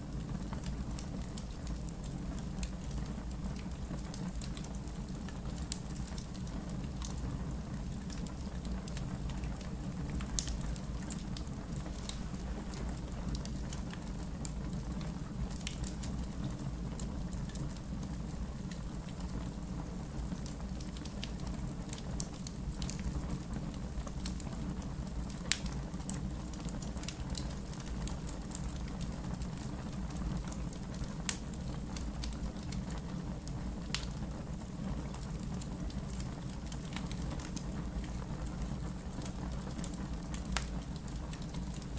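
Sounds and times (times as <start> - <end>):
fire crackling and popping: 0.0 - 41.9
fire flames rumbling: 0.0 - 41.9.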